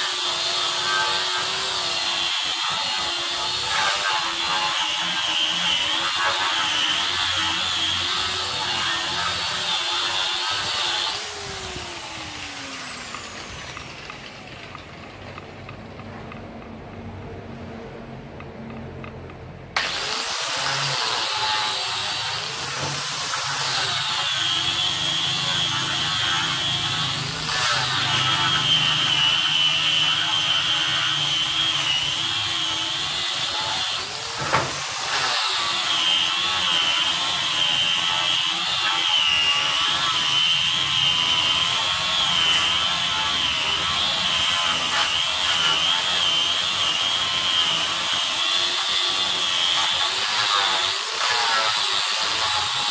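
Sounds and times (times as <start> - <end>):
angle grinder sanding wood: 0.0 - 17.0, 19.8 - 52.9.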